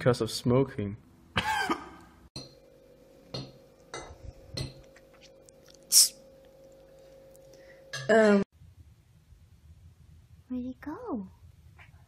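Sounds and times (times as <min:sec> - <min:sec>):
faint steady hum: 0:01.0 - 0:11.8.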